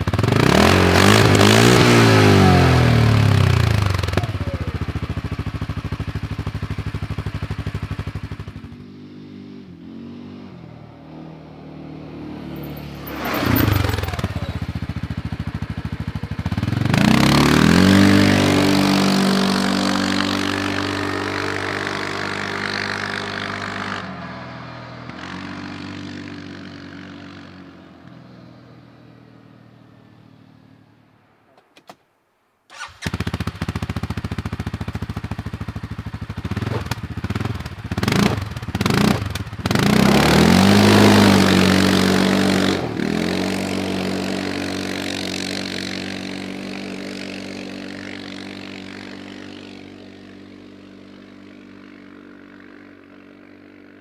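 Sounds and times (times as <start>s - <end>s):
quad engine revving: 0.0s - 28.2s, 32.7s - 54.0s.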